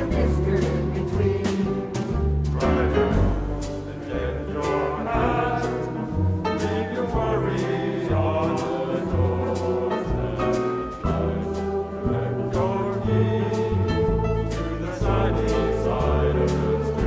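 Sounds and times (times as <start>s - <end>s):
double bass notes: 0.0s - 17.0s
mixed choir singing swing jazz: 0.0s - 17.0s.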